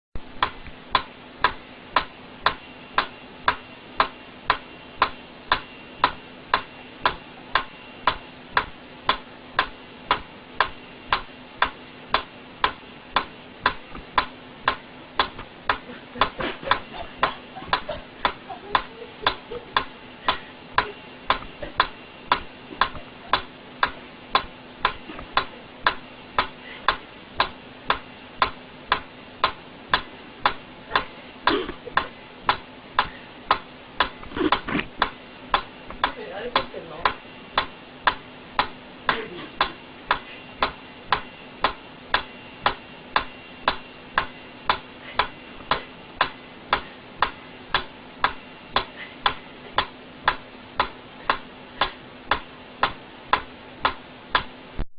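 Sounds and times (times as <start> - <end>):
metronome ticking: 0.3 - 54.5.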